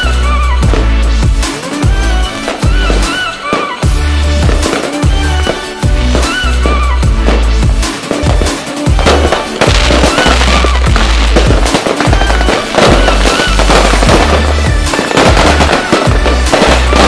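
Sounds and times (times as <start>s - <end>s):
fireworks bursting and crackling: 0.0s - 17.0s
loud music with sustained bass: 0.0s - 17.0s.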